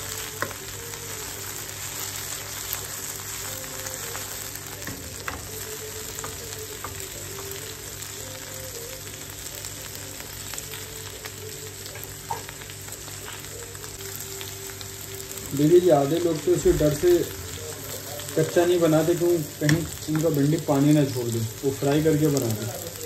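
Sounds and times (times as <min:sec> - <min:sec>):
vegetables sizzling in a pan: 0:00.0 - 0:23.0.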